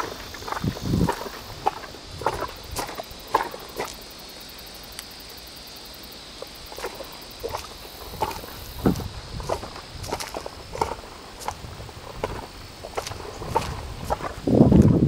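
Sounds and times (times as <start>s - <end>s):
footsteps on dirt and leaves: 0.0s - 5.1s, 6.3s - 15.0s.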